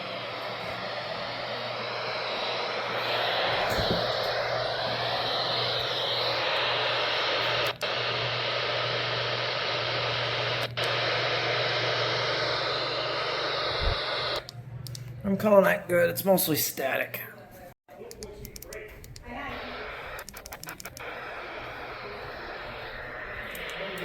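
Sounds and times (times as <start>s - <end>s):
radio static hiss: 0.0s - 14.5s, 18.5s - 24.0s
steady low hum: 0.0s - 15.2s, 18.1s - 24.0s.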